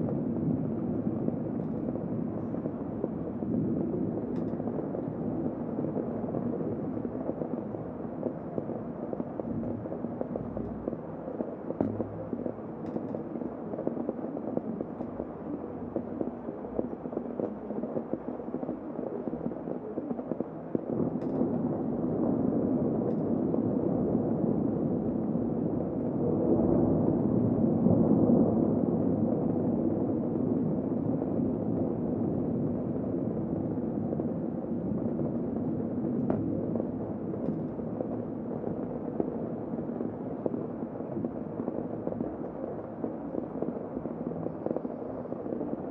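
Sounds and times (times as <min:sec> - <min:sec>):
muffled heavy rain: 0:00.0 - 0:45.9.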